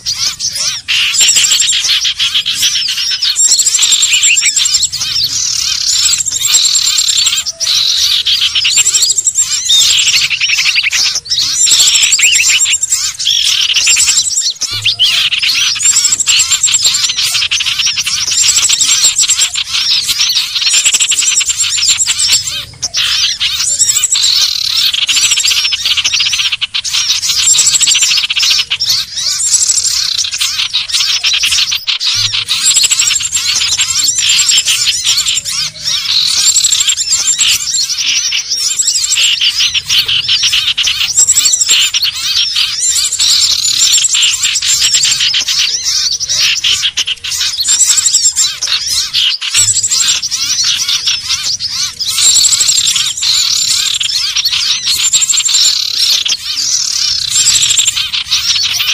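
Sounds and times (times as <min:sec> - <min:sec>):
bird chattering and whistling: 0:00.0 - 0:58.9
high bird trill: 0:00.0 - 0:58.9.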